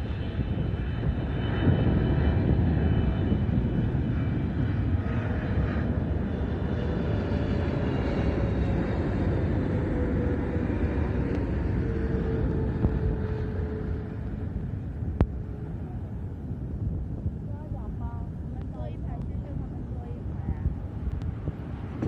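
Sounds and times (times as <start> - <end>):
jet airliner engines rumbling: 0.0 - 22.0.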